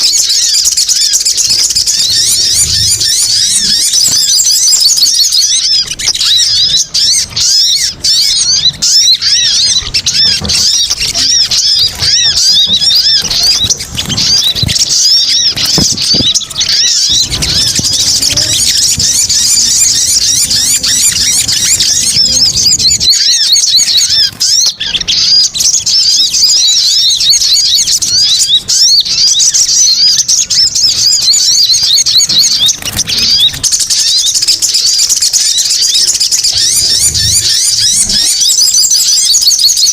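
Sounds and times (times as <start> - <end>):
sunbird chirps and twitters: 0.0 - 39.9.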